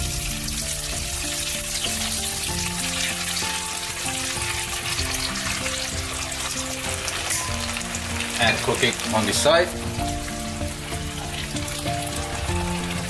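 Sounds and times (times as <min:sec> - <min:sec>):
background music: 0:00.0 - 0:13.0
oil sizzling in a frying pan: 0:00.0 - 0:13.0.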